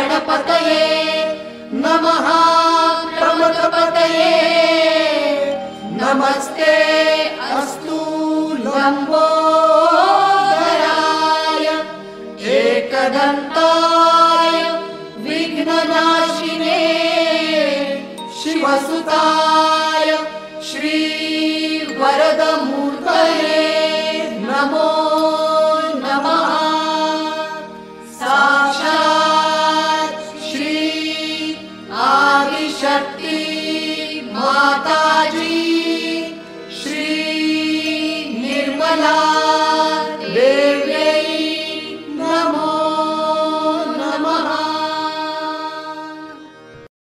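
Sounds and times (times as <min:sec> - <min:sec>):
melodic chanting: 0:00.0 - 0:46.9.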